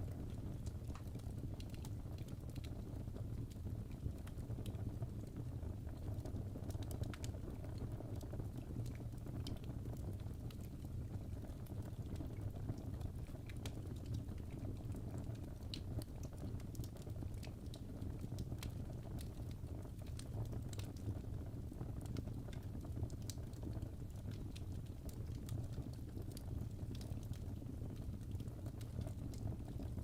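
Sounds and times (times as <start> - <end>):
fire popping and snapping: 0.0 - 30.0.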